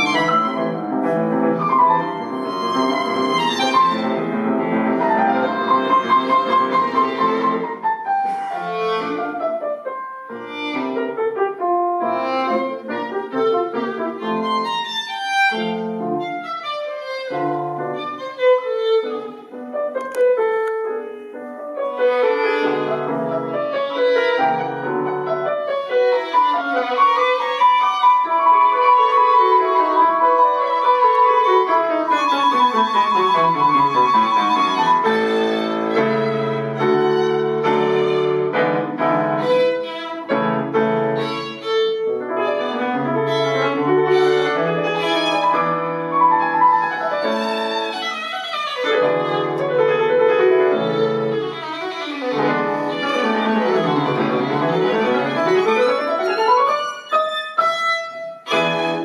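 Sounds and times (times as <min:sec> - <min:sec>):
piano: 0:00.0 - 0:59.0
violin melody: 0:00.0 - 0:59.0.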